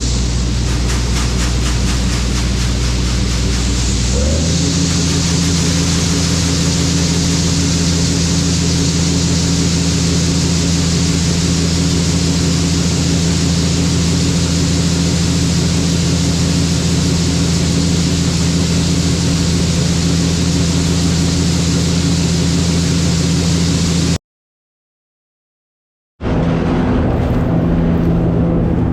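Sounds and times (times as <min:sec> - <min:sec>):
combine engine revving: 0:00.0 - 0:24.2.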